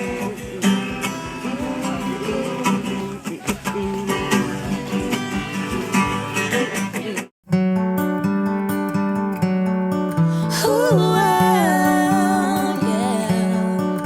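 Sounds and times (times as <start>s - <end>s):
pop music with strummed guitar: 0.0s - 14.0s.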